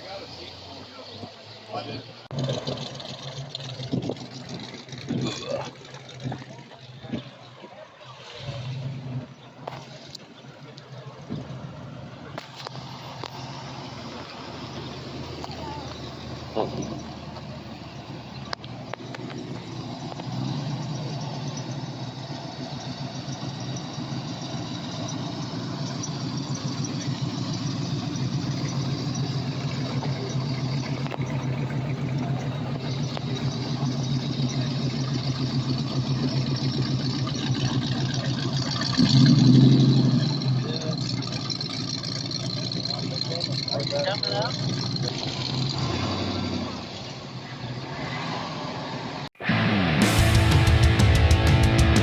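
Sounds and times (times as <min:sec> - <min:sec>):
car engine idling: 0:00.0 - 0:48.1, 0:48.8 - 0:52.0.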